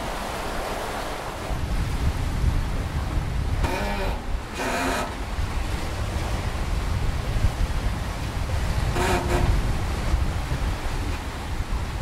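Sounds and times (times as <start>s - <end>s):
low rumble of wind: 0.0s - 12.0s
sea water rushing past a boat: 0.0s - 12.0s.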